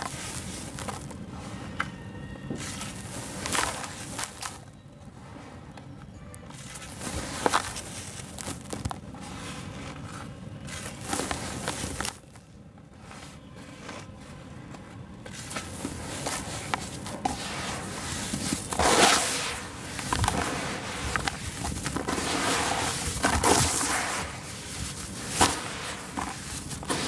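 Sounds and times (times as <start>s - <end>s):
hands crunching dry cement mix: 0.0s - 27.0s.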